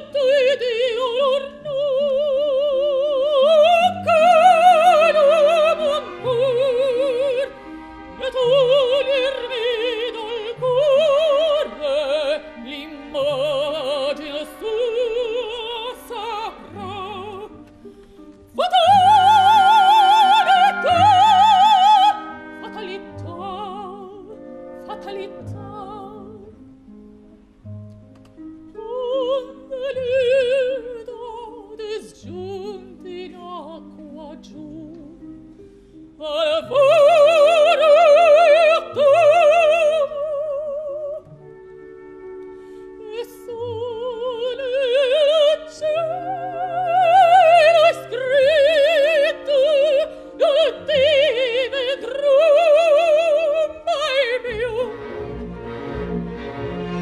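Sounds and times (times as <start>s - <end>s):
operatic soprano singing: 0.0s - 17.7s, 18.5s - 26.6s, 28.7s - 35.4s, 36.2s - 41.6s, 43.0s - 55.2s
symphony orchestra: 0.0s - 57.0s.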